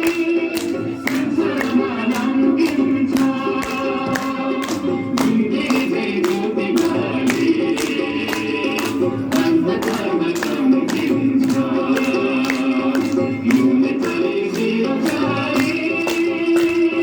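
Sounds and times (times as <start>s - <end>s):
singing over a steady beat: 0.0s - 17.0s.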